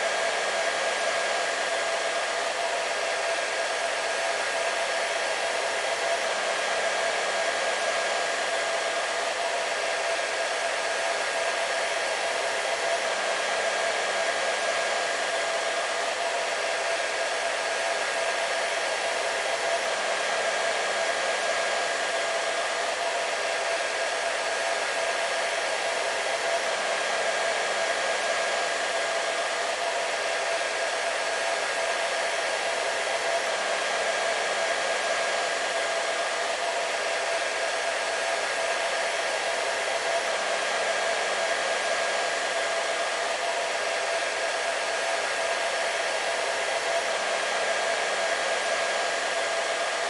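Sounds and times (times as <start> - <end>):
hair dryer running: 0.0 - 50.0.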